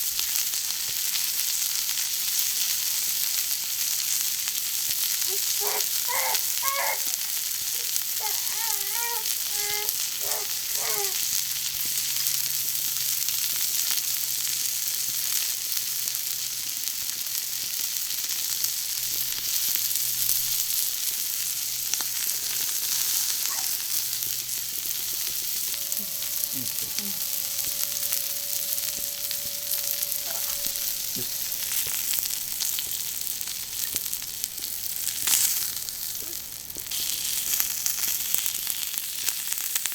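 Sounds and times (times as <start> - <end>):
food sizzling on griddle: 0.0 - 39.9.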